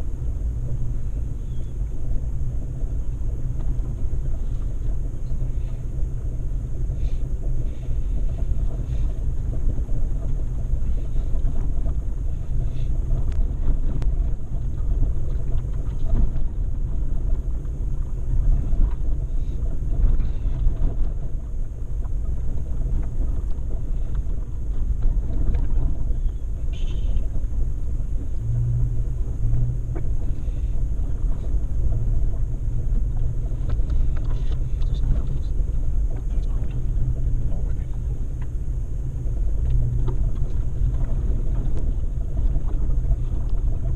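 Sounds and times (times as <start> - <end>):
engine and tyres rumbling: 0.0 - 43.9
wind buffeting microphone: 0.0 - 43.9.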